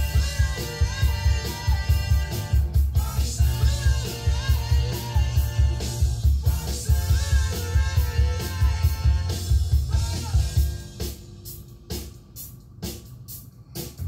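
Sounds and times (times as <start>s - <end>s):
sung melody over bass beat: 0.0s - 14.0s.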